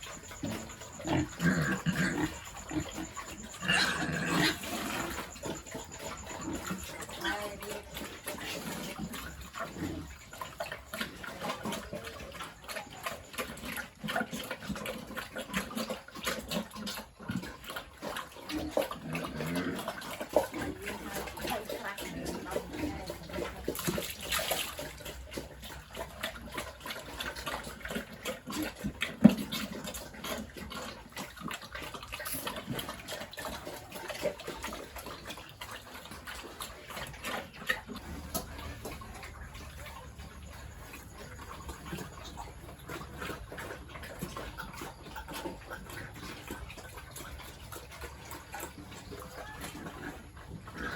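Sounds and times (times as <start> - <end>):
water splashing and sloshing: 0.0 - 50.9.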